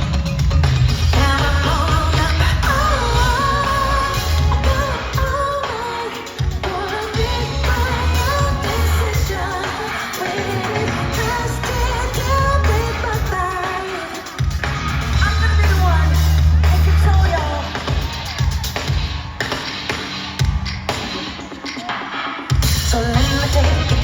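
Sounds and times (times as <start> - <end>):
band with heavy bass: 0.0 - 24.0
singer's voice: 0.0 - 24.0.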